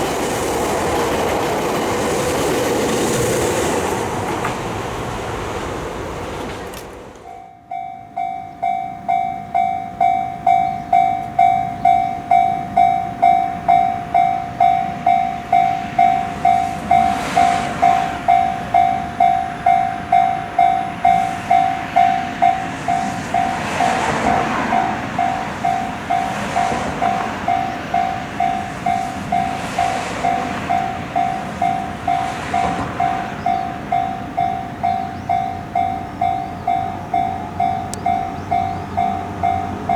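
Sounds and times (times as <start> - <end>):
train passing: 0.0 - 39.9
level-crossing warning bell ringing: 7.2 - 39.9.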